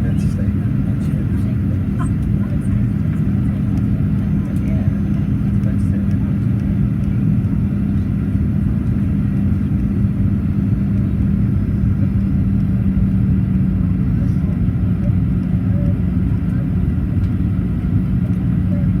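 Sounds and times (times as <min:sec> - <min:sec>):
airplane cabin rumble: 0:00.0 - 0:19.0
steady low hum: 0:00.0 - 0:19.0.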